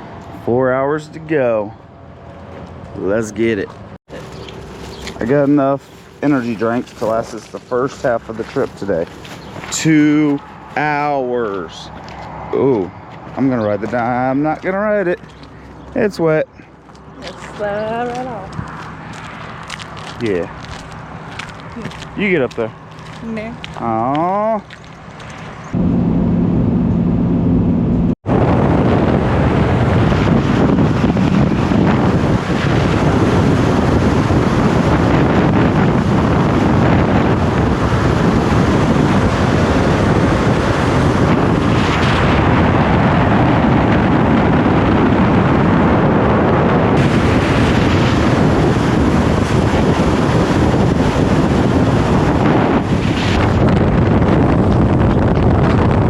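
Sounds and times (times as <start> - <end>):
vehicle and road rumble: 0.0 - 56.0
wind buffeting microphone: 0.0 - 56.0.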